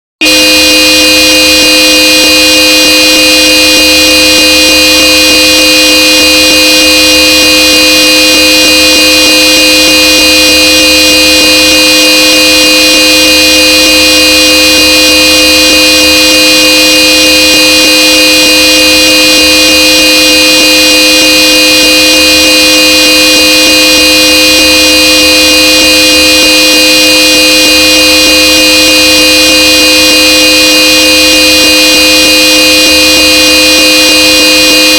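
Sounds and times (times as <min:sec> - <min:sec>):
electric car horn blast: 0:00.0 - 0:34.9.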